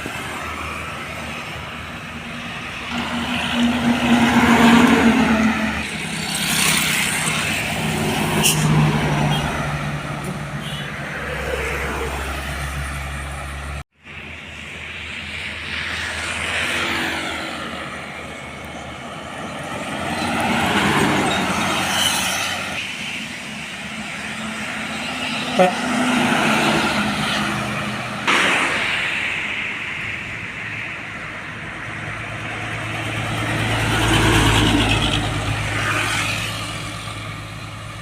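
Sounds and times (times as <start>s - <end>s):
trucks and cars passing: 0.0s - 38.0s.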